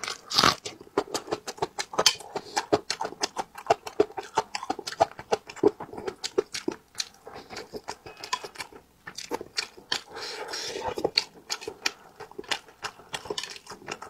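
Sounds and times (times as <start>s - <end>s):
wet chewing and lip-smacking: 0.0s - 14.0s.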